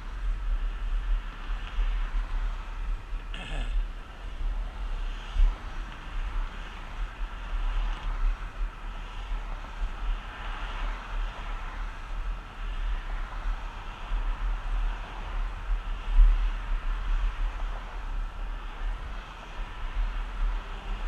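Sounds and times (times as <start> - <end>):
skateboard wheels on asphalt: 0.0 - 21.0
wind buffeting microphone: 0.0 - 21.0.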